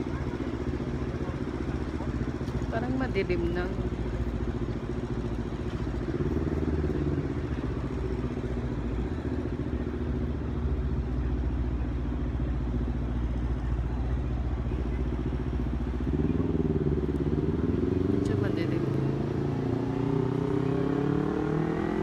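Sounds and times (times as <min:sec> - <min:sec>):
city traffic engine hum: 0:00.0 - 0:22.0.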